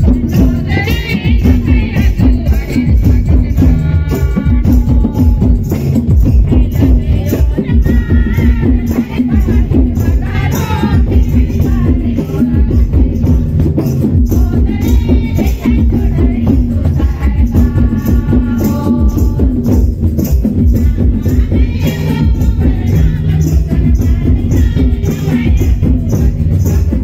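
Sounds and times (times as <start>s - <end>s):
shaken percussion: 0.0s - 27.0s
women singing a hymn: 0.0s - 27.0s.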